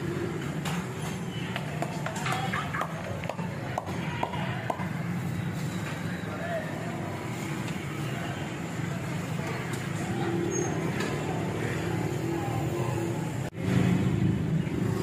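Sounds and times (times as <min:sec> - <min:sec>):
low rumble of busy street: 0:00.0 - 0:15.0
faint voices: 0:00.8 - 0:14.2.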